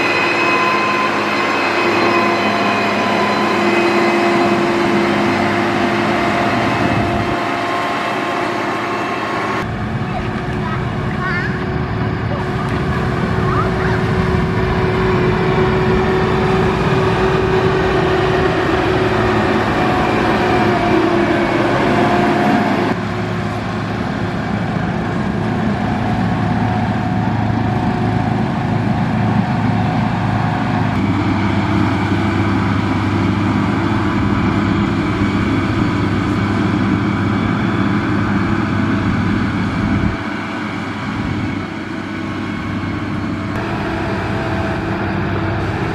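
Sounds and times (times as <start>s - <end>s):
heavy machinery diesel engine: 0.0s - 45.9s.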